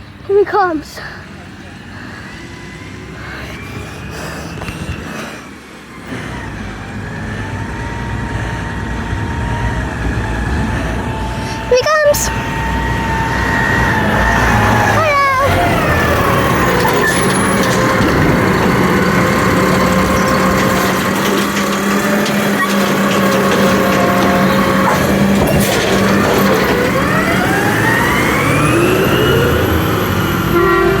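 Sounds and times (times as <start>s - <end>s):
garbage truck diesel engine revving: 0.0s - 31.0s.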